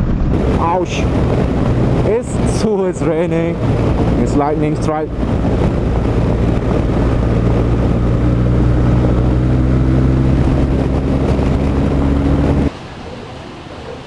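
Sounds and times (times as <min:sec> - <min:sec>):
motorcycle engine running: 0:00.0 - 0:12.7
wind rushing over microphone: 0:00.0 - 0:12.8.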